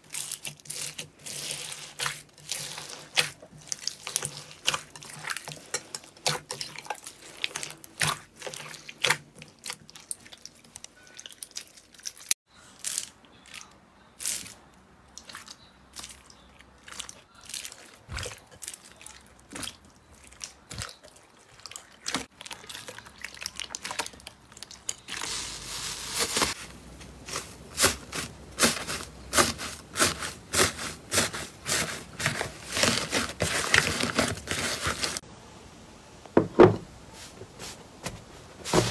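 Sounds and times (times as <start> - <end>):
wet slime squelches: 0.0 - 35.2.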